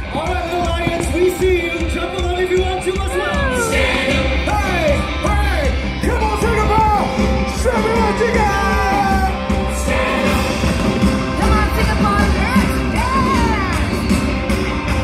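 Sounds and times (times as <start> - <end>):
rock song over sound system: 0.0 - 15.0
steady bass beat: 0.0 - 15.0.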